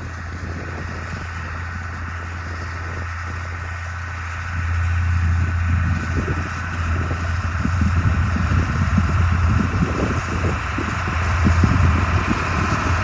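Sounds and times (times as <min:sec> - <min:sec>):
farm machine engine droning: 0:00.0 - 0:13.0.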